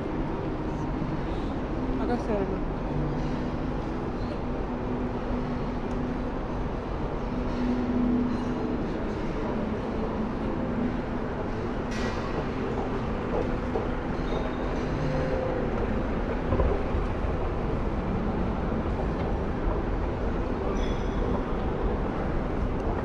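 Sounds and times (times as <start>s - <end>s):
shopping mall hubbub: 0.0s - 23.0s.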